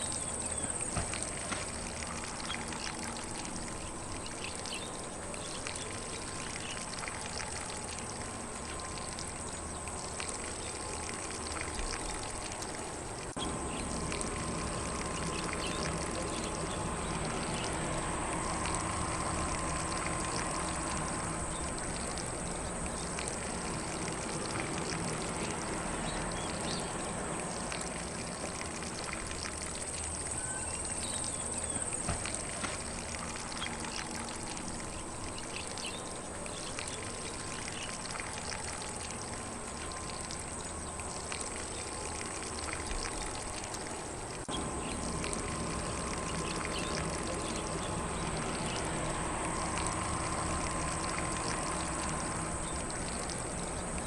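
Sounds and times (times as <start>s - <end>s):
lawn sprinkler spraying water: 0.0s - 54.0s.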